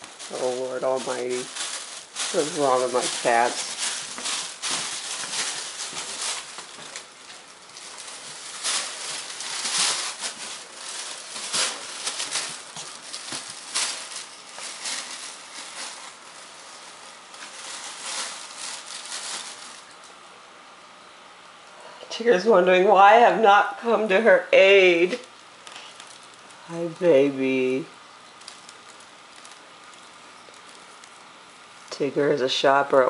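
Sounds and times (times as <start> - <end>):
plastic bag crinkling: 0.0 - 20.3, 25.0 - 32.0.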